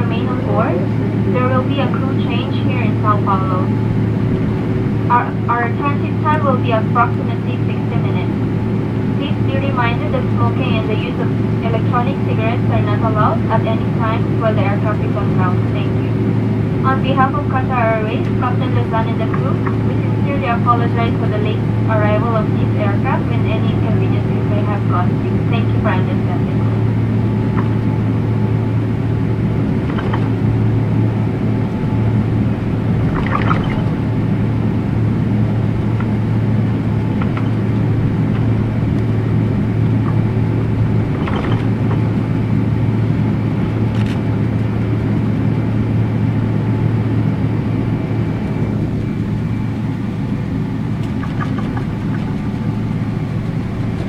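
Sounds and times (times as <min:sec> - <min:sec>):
airplane cabin rumble and hum: 0:00.0 - 0:54.0.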